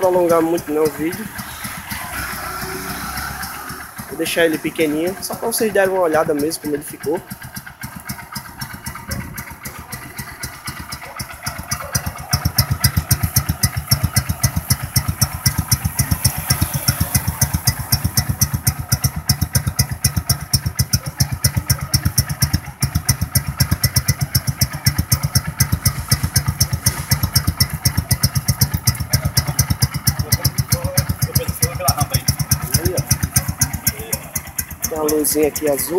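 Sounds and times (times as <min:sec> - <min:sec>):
motorcycle engine idling: 0:00.0 - 0:35.9.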